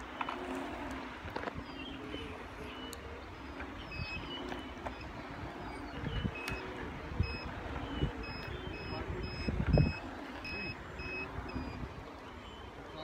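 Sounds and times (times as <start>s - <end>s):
hoverboard beeping: 0.0s - 13.0s
low wind: 0.0s - 13.0s
rolling rumble: 0.0s - 13.0s.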